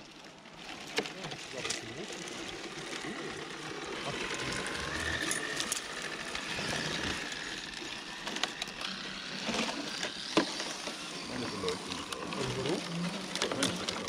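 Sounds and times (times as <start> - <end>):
electric motor whining: 0.6 - 14.0.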